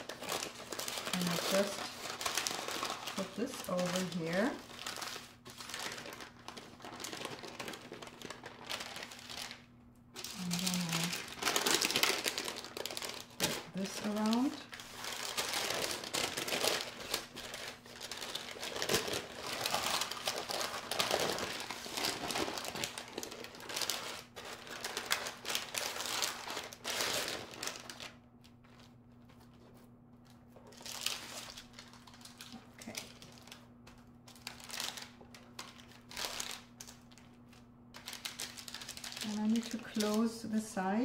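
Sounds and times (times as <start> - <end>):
parchment paper crinkling: 0.0 - 40.9.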